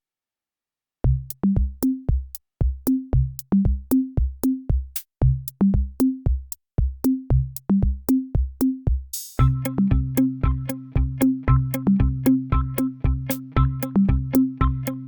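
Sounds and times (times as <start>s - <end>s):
electronic drum-machine beat: 1.1s - 15.0s.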